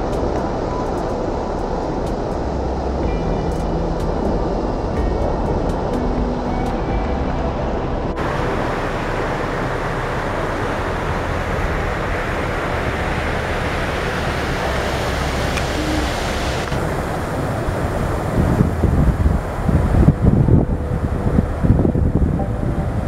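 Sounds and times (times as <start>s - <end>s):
ocean surf breaking: 0.0s - 23.0s
wind on microphone: 0.0s - 23.0s.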